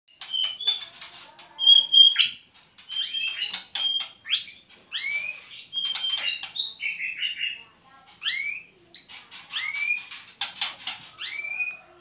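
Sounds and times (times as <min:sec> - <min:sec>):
songbird whistling song: 0:00.1 - 0:00.9, 0:01.6 - 0:10.2, 0:11.1 - 0:11.9.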